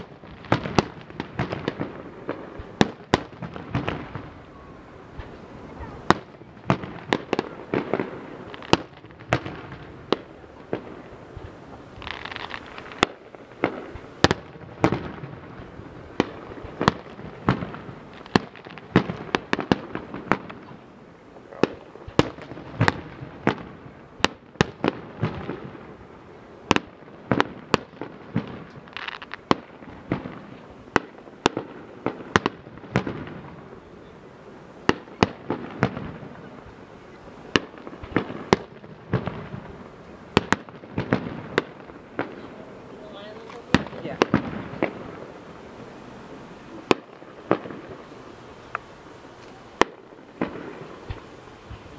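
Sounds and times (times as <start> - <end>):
fireworks bursting with bangs: 0.0 - 51.9.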